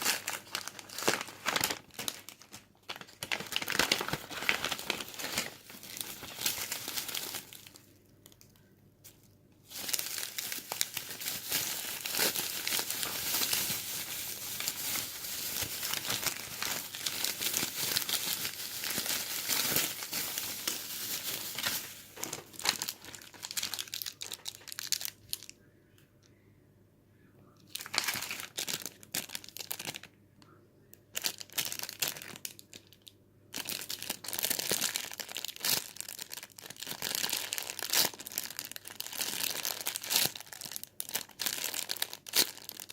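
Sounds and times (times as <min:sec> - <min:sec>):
packaging crinkling and tearing: 0:00.0 - 0:25.5, 0:27.7 - 0:30.1, 0:31.1 - 0:42.9.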